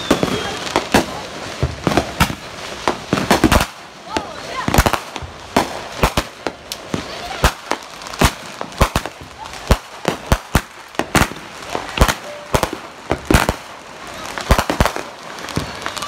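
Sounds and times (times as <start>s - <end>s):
crackling hiss: 0.0s - 16.0s
fireworks banging: 0.0s - 16.0s.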